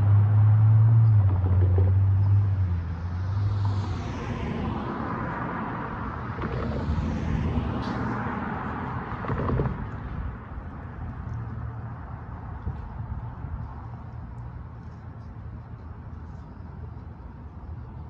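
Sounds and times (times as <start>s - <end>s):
cars passing: 0.0s - 18.0s
low engine hum: 0.0s - 18.0s.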